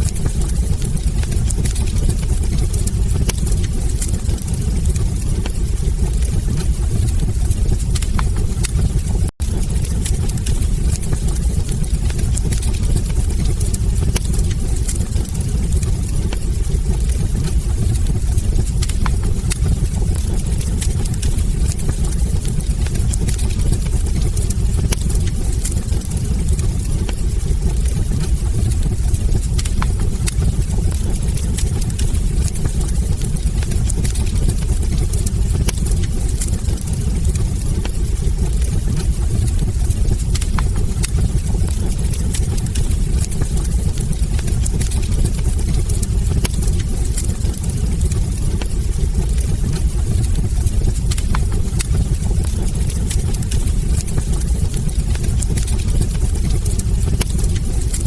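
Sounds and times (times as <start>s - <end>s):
fire rumbling: 0.0s - 58.0s
logs crackling and popping: 0.0s - 58.0s.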